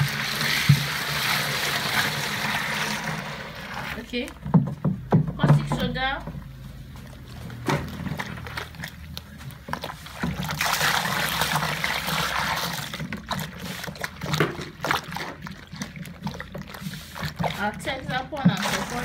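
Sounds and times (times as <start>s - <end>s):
liquid pouring into plastic drum: 0.0s - 5.9s, 6.5s - 19.0s
containers knocking and scraping: 0.0s - 19.0s.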